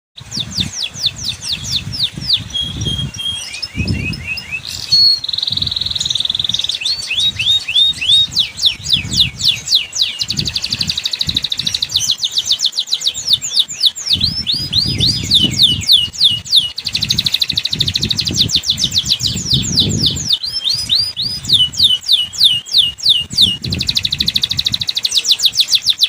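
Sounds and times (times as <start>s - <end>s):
canary singing: 0.2s - 26.0s.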